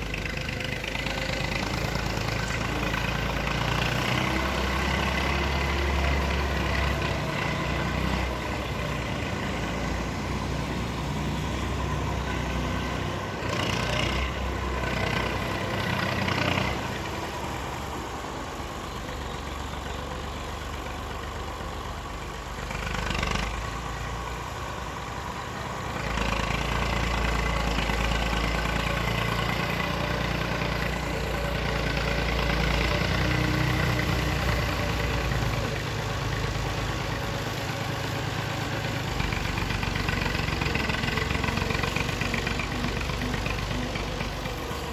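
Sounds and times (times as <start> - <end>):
excavator diesel engine rumbling: 0.0 - 44.9.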